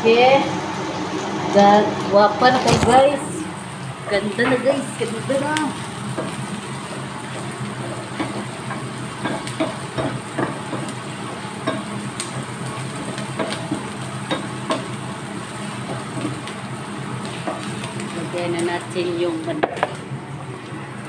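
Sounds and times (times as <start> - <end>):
onions sizzling in oil: 0.1 - 21.0.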